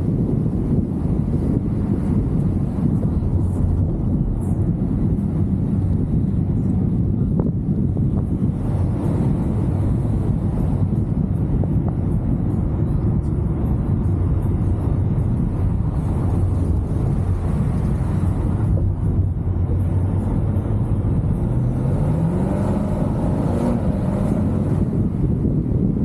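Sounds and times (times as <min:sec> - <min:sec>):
car engine running: 0:00.0 - 0:26.0
road and wind noise: 0:00.0 - 0:26.0.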